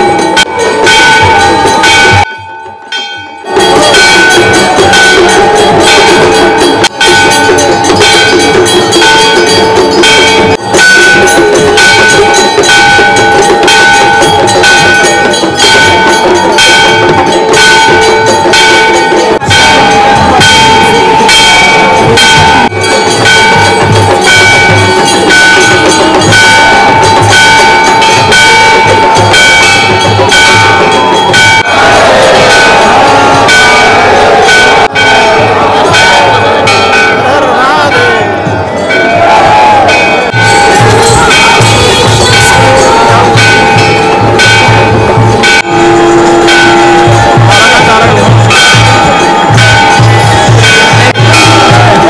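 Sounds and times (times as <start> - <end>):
temple bells ringing rapidly: 0.0 - 52.0.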